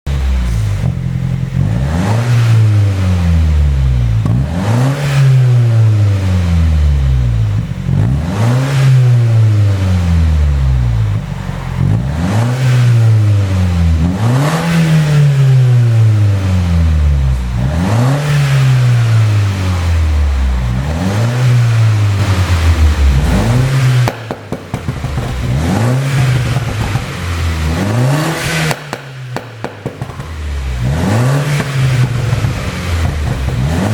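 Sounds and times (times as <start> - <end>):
car engine revving: 0.1 - 33.9
exhaust popping and crackling: 0.1 - 33.9.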